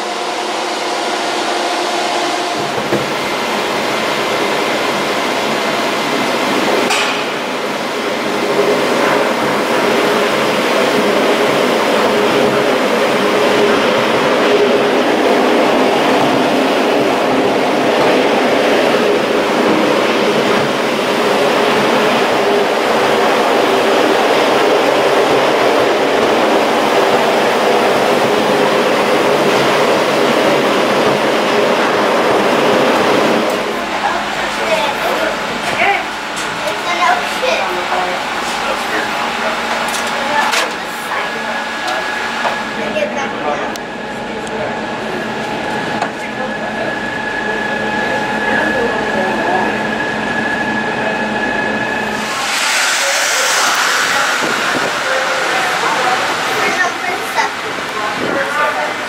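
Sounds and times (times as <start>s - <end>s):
tram capsule mechanical rumble: 0.0s - 49.8s.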